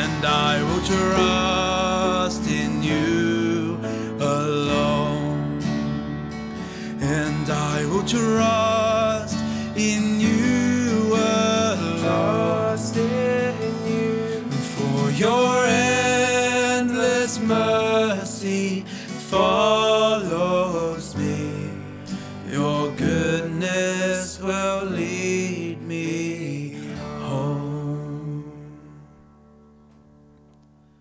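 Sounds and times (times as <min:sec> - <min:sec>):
man singing: 0:00.0 - 0:29.1
acoustic guitar: 0:00.0 - 0:31.0
keyboard: 0:00.0 - 0:31.0.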